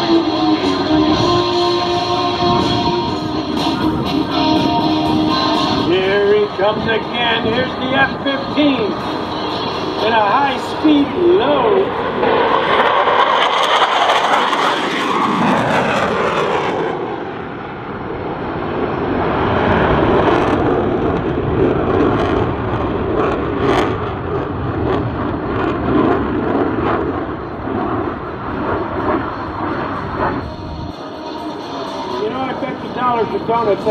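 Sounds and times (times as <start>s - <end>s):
fighter jet passing: 0.0s - 33.9s.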